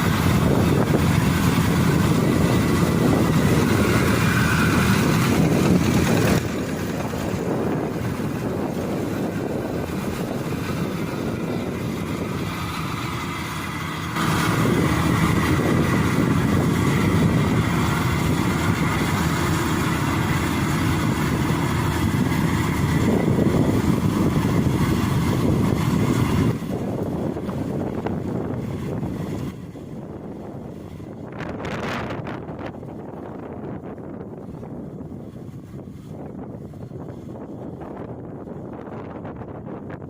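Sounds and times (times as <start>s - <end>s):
combine harvester engine drone: 0.0s - 40.0s.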